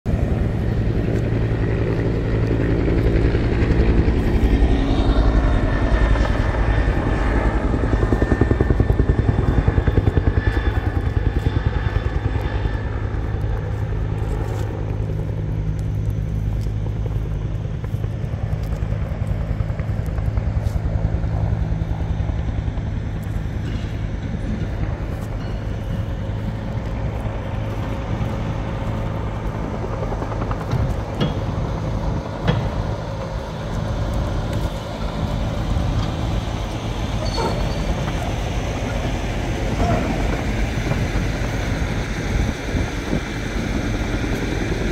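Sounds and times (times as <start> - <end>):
bulldozer diesel engine running: 0.1 - 44.9
high-pitched whine: 0.1 - 44.9.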